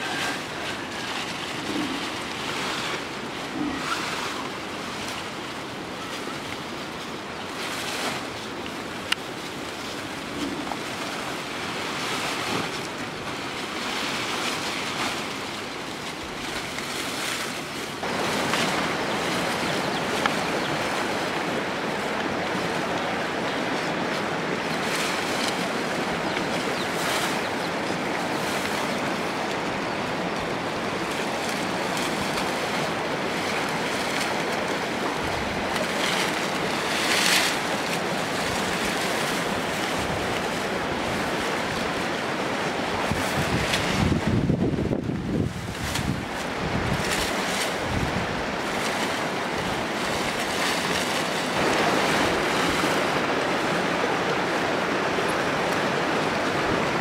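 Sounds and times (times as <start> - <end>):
rustling straw and leafy branches: 0.0 - 57.0.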